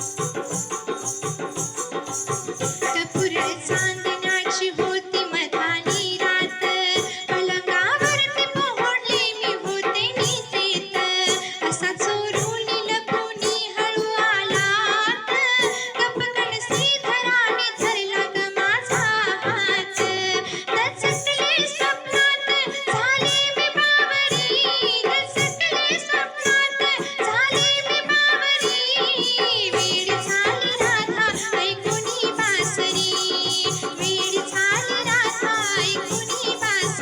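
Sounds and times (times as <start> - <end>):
hand drum beat: 0.0 - 5.0, 5.7 - 37.0
person singing devotional song: 0.0 - 37.0.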